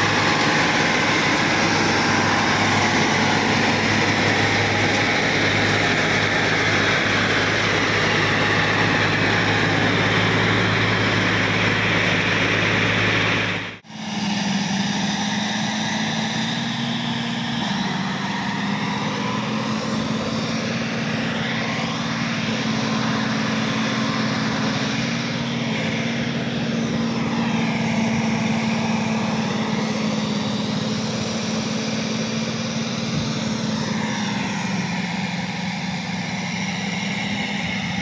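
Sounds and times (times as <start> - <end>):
diesel machinery droning: 0.0 - 38.0.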